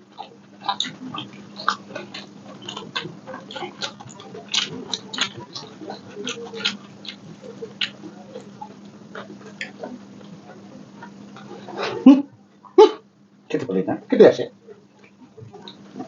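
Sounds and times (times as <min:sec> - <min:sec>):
chewing and lip-smacking: 0:00.0 - 0:11.8, 0:14.8 - 0:16.0
faint steady hum: 0:00.0 - 0:16.0.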